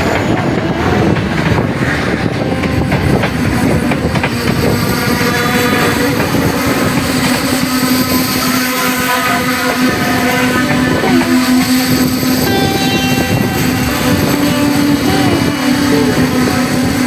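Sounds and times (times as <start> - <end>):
train engine drone: 0.0 - 17.0
train wheels clattering on rails: 0.0 - 17.0.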